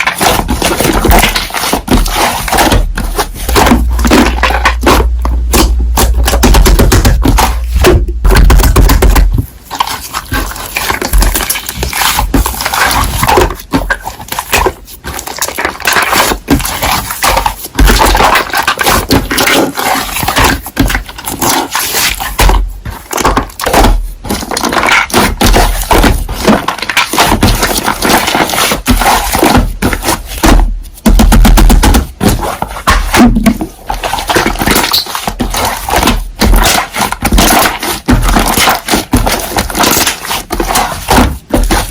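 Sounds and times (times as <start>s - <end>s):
slime squishing by hand: 0.0s - 41.9s.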